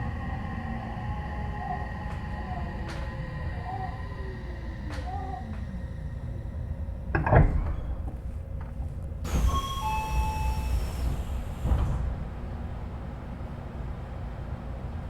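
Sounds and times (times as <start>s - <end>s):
electric train motor whine: 0.0s - 12.5s.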